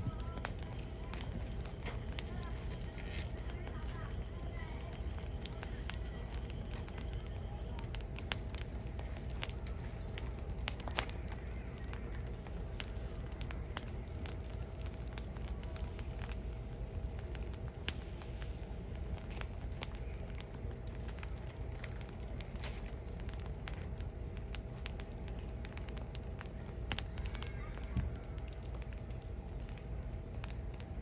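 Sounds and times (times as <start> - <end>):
firewood crackling and popping: 0.0 - 31.0
low steady rumble: 0.0 - 31.0.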